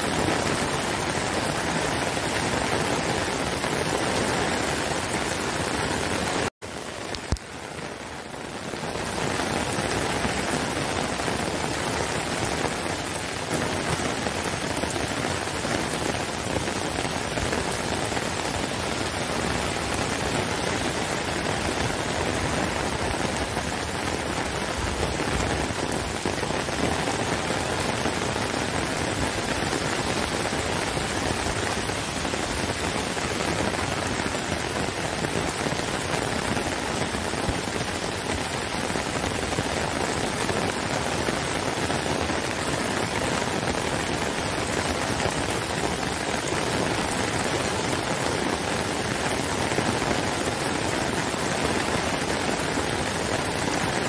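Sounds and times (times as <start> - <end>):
heavy rain on trees and path: 0.0 - 54.0.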